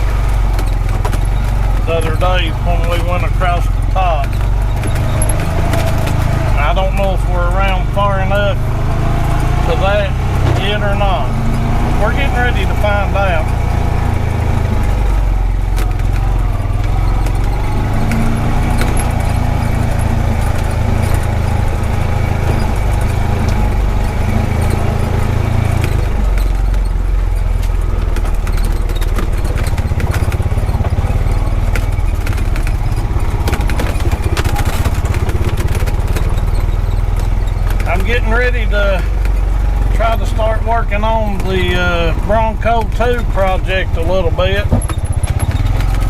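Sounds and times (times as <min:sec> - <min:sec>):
body and gear rattling: 0:00.0 - 0:46.0
vehicle engine running: 0:00.0 - 0:46.0.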